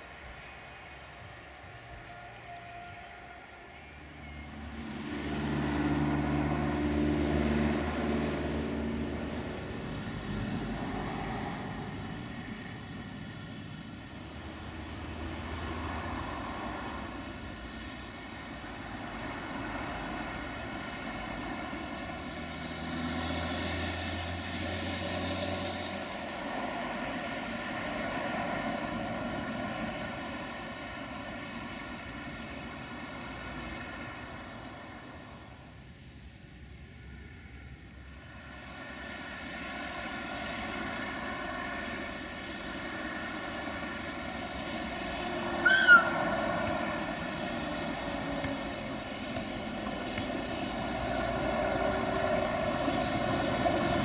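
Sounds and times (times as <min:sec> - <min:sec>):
engine drone with low hum: 0:00.0 - 0:54.0.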